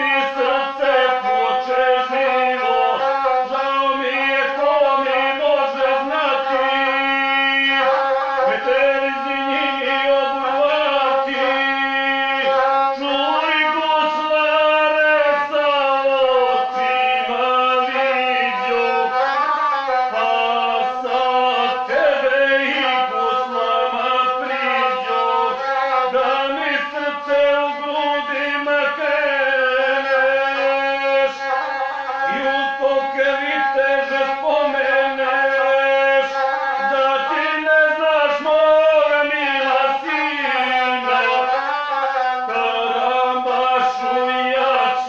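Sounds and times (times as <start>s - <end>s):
bowed single-string fiddle: 0.0s - 45.0s
man chanting epic singing: 0.0s - 45.0s.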